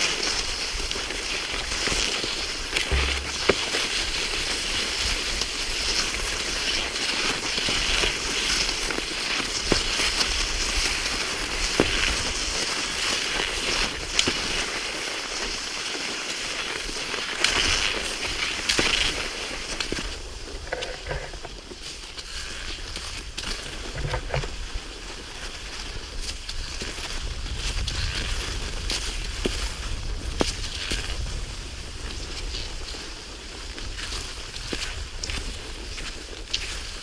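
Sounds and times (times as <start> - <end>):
skis hissing over snow: 0.0 - 37.0.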